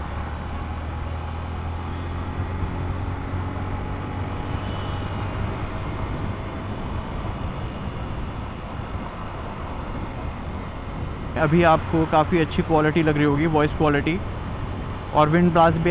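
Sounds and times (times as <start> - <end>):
motorcycle engine drone: 0.0 - 15.9
wind and road rush: 0.0 - 15.9.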